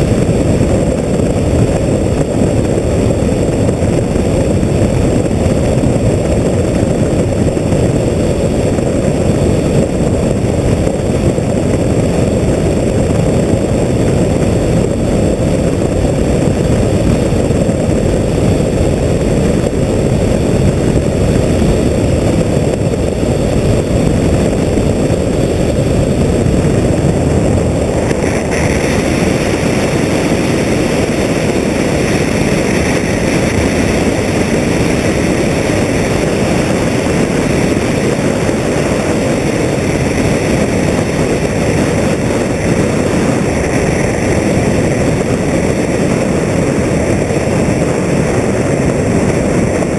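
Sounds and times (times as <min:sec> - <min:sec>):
airflow rushing over camera: 0:00.0 - 0:49.9.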